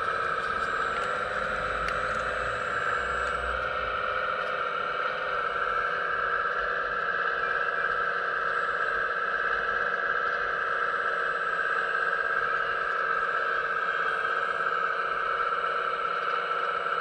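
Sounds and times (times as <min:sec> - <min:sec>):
hydraulic pump whining: 0:00.0 - 0:15.3.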